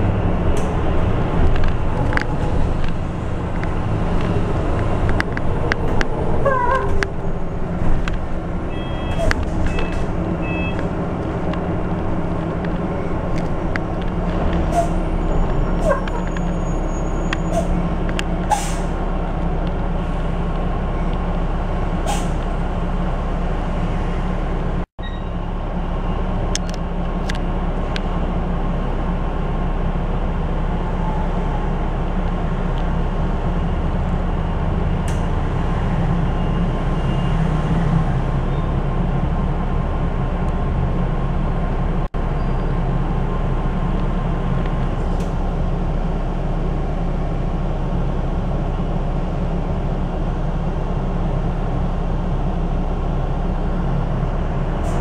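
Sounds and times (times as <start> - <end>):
electric bus drive hum: 0.0 - 55.0
road noise: 0.0 - 55.0.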